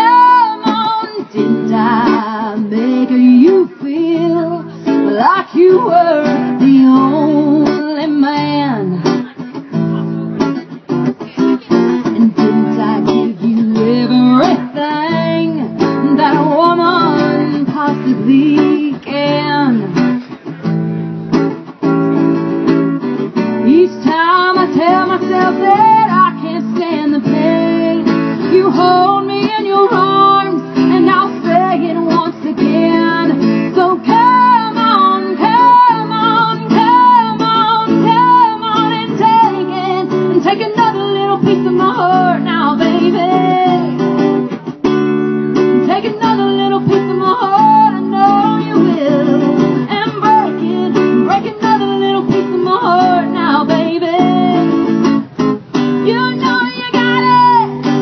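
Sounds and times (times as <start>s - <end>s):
woman singing: 0.0s - 9.3s, 12.0s - 20.2s, 23.4s - 44.2s, 45.6s - 55.2s, 56.0s - 58.0s
strummed acoustic guitar: 0.0s - 58.0s.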